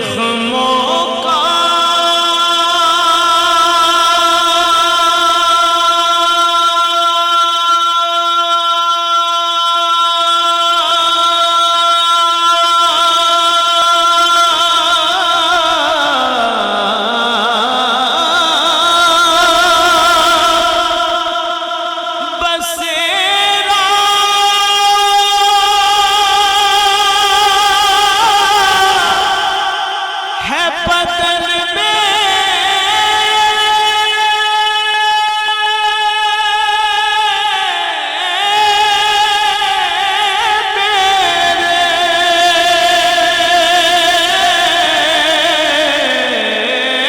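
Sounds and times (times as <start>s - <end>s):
man singing a long note: 0.0s - 47.0s.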